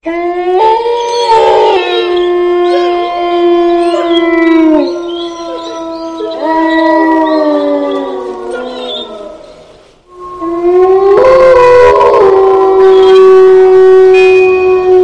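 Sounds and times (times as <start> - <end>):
overlapping long howls: 0.0 - 15.0.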